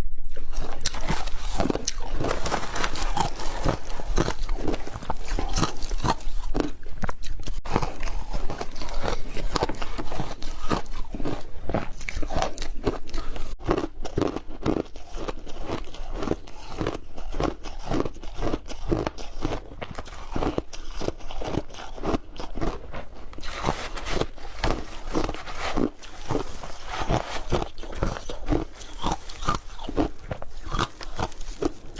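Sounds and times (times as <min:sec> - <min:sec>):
chewing something crunchy: 0:00.3 - 0:31.9.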